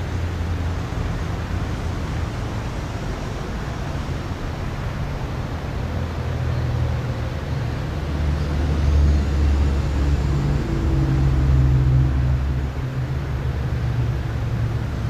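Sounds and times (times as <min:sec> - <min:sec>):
loud low outdoor rumble: 0:00.0 - 0:15.0.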